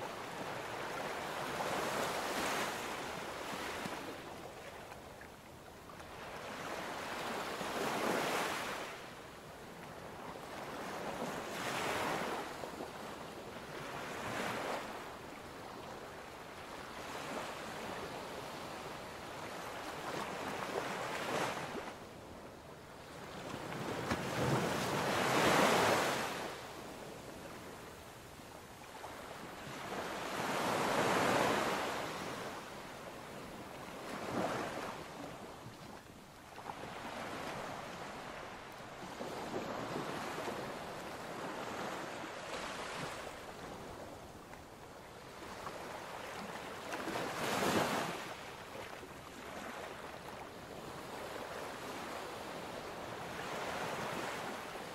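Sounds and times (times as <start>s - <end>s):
ocean waves surging and washing: 0.0s - 54.9s.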